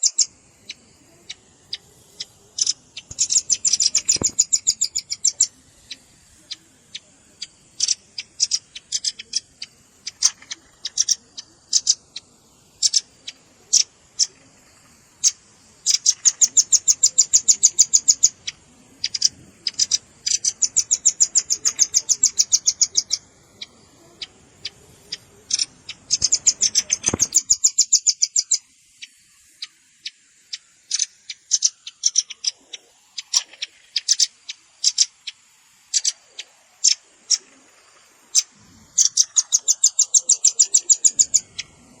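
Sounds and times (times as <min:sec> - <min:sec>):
bird chip notes and trills: 0:00.0 - 0:42.0.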